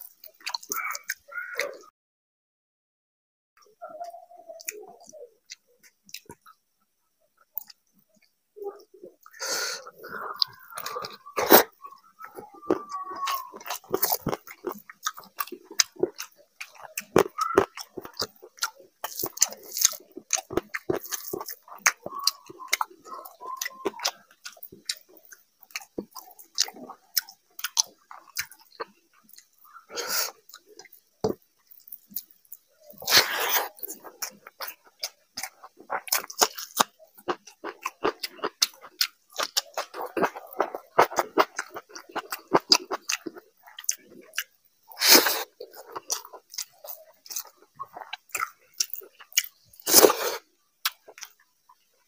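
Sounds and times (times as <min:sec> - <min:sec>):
man chewing with wet smacks: 0:00.0 - 0:01.8, 0:04.0 - 0:06.6, 0:07.4 - 0:52.0.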